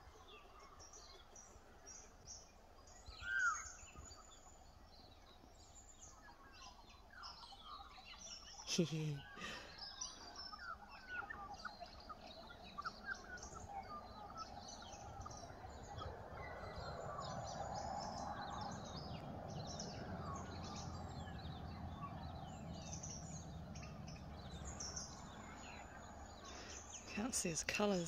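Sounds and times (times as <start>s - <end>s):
birds chirping: 0.0s - 28.0s
outdoor background noise: 0.0s - 28.0s.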